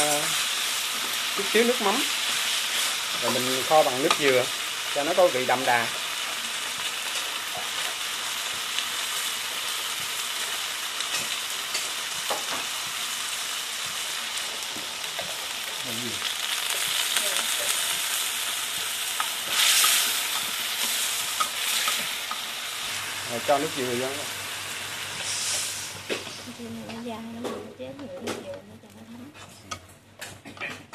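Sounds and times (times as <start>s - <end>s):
meat sizzling in oil: 0.0s - 26.7s
chopsticks stirring in pan: 0.0s - 27.6s, 28.5s - 30.8s.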